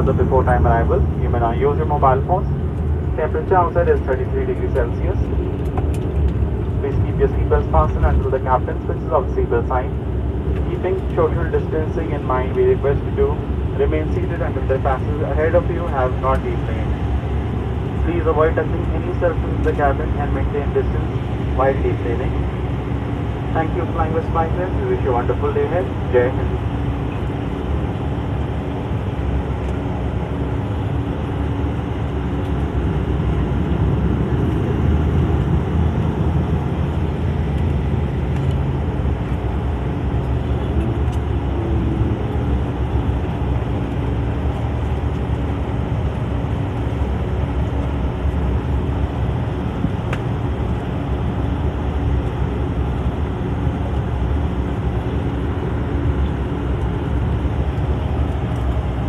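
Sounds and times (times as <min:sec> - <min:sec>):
airliner engine noise: 0:00.0 - 0:59.0
cabin air-conditioning noise: 0:00.0 - 0:59.0.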